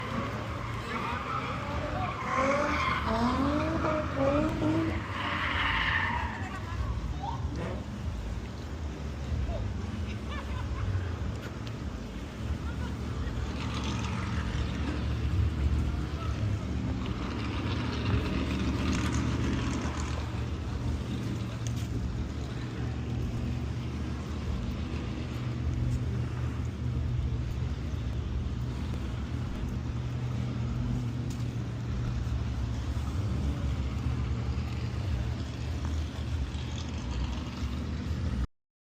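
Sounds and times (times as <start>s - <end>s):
car engine droning: 0.0s - 38.5s.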